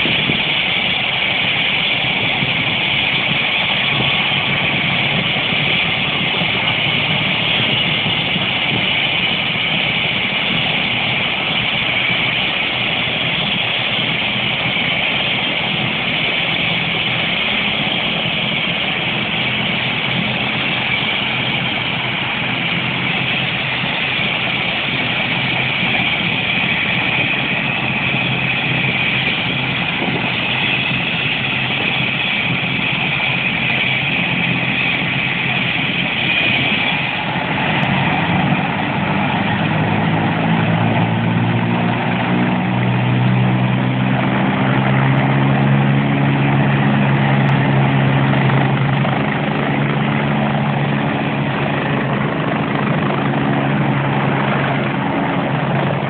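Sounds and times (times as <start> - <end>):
helicopter rotor beat: 0.0 - 56.0
helicopter turbine whine: 0.0 - 56.0.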